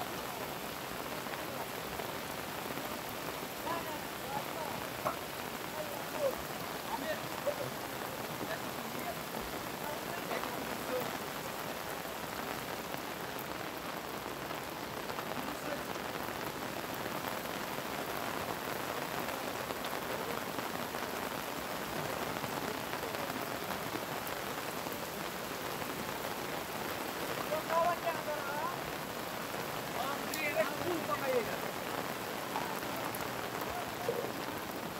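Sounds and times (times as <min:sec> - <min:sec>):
floodwater rushing down road: 0:00.0 - 0:34.9.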